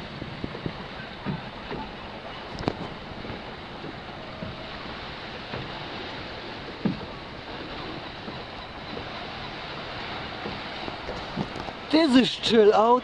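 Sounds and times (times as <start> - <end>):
water against boat hull: 0.0 - 13.0
wind: 0.0 - 13.0.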